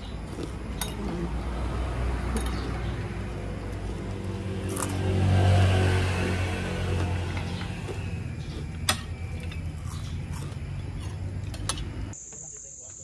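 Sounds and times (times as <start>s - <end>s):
vehicle engine rumbling: 0.0s - 12.2s.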